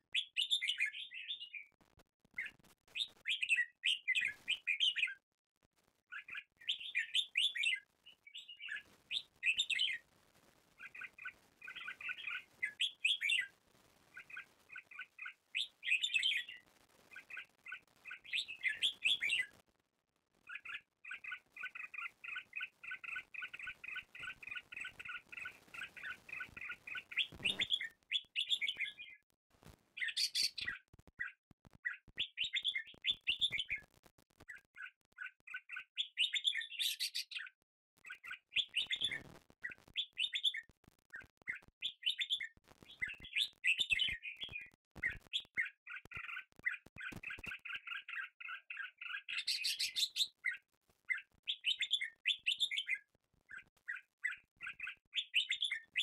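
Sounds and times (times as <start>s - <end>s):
small birds chirping: 0.0s - 5.2s, 6.1s - 10.1s, 10.7s - 19.6s, 20.4s - 29.3s, 29.9s - 56.0s
bird trill: 0.1s - 1.7s, 2.4s - 5.2s, 6.1s - 10.0s, 10.8s - 13.5s, 14.2s - 16.6s, 17.2s - 19.5s, 20.5s - 29.2s, 30.0s - 33.8s, 34.5s - 37.5s, 38.1s - 39.2s, 40.0s - 40.7s, 41.8s - 56.0s.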